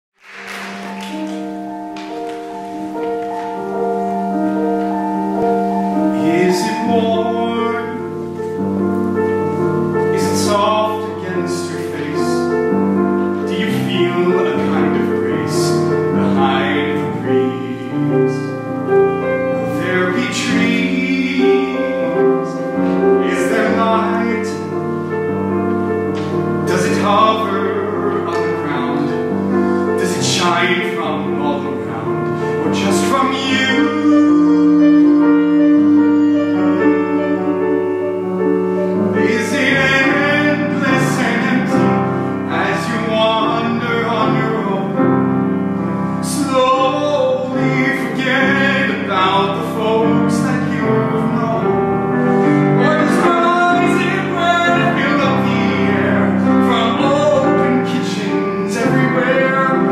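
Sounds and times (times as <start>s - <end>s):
grand piano: 0.1s - 59.9s
man singing a slow ballad: 5.8s - 8.4s, 9.8s - 12.7s, 13.3s - 24.9s, 26.3s - 38.3s, 39.1s - 45.3s, 46.2s - 59.9s.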